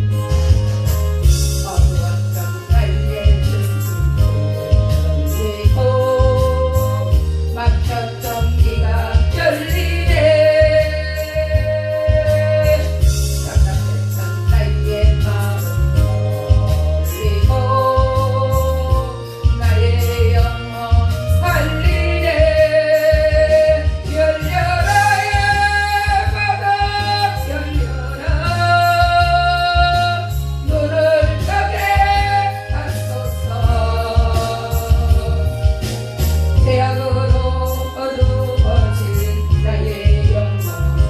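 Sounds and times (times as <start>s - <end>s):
instrumental accompaniment with bass: 0.0s - 41.0s
person singing: 1.2s - 41.0s.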